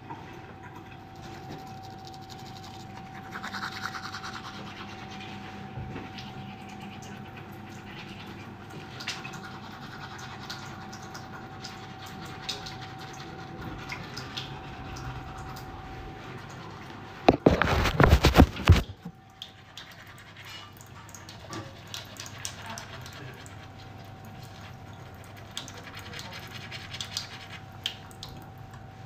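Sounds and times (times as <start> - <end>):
toothbrush scrubbing teeth: 0.6 - 29.0.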